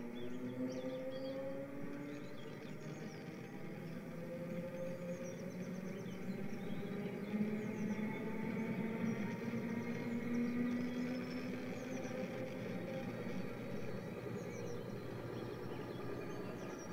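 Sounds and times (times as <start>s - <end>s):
faint bird chirping: 0.0s - 16.9s
model train hum: 1.2s - 16.9s.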